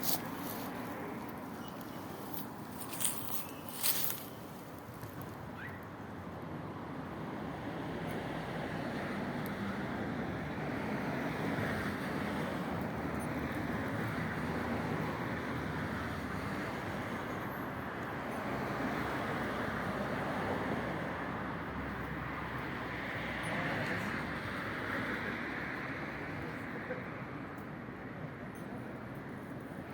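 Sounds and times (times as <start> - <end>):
street hiss and rumble: 0.0 - 29.9.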